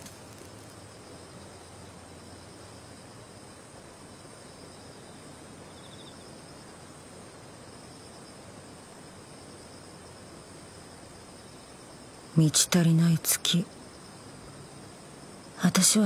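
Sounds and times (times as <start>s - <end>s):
background hiss: 0.0s - 16.0s
crickets chirring: 0.0s - 16.0s.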